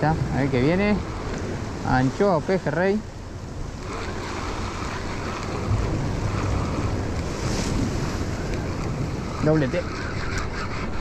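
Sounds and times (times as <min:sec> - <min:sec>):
sea washing against rocks: 0:00.0 - 0:11.0
wind buffeting microphone: 0:00.0 - 0:11.0.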